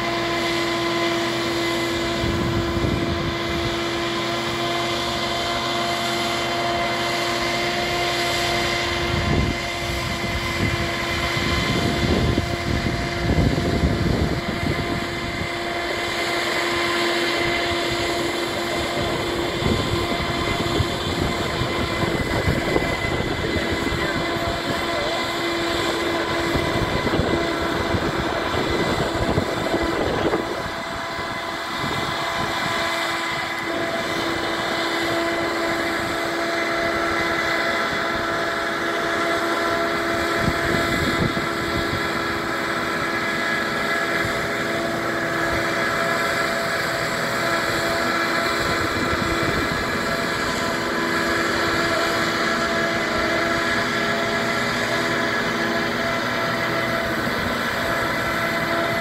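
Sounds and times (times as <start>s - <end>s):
machine engine and hydraulics hum: 0.0s - 59.0s.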